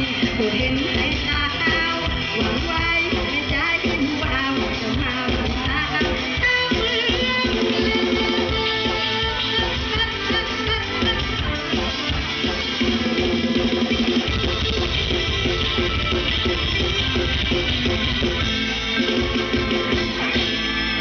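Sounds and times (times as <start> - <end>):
drum kit beat: 0.0 - 21.0
electric guitar: 0.0 - 21.0.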